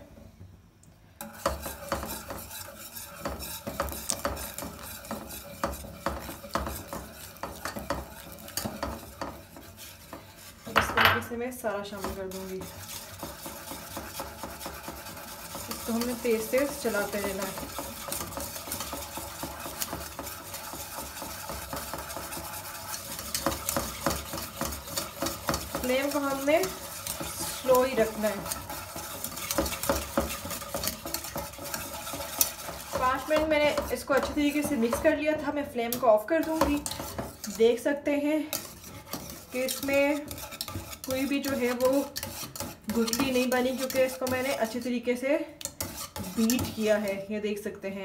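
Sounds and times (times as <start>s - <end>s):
whisk beating in metal saucepan: 1.2s - 47.3s.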